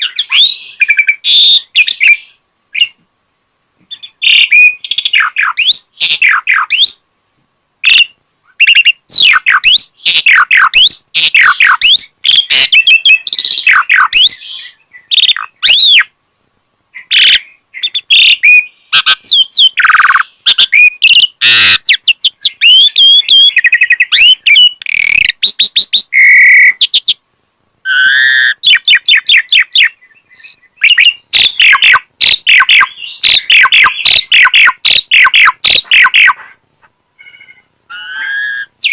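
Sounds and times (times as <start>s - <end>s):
starling singing: 0.0s - 3.0s, 3.9s - 7.0s, 7.8s - 16.1s, 16.9s - 27.2s, 27.9s - 36.5s, 37.2s - 38.9s.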